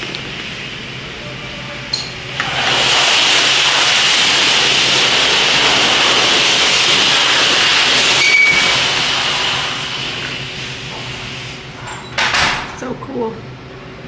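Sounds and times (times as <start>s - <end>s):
high-pressure water spray hissing: 0.0s - 11.9s.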